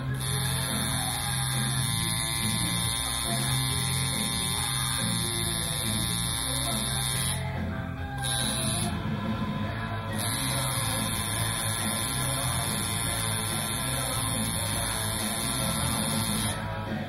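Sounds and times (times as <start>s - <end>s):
tattoo machine buzzing: 0.0s - 9.2s, 10.1s - 17.0s
background music: 0.0s - 17.0s.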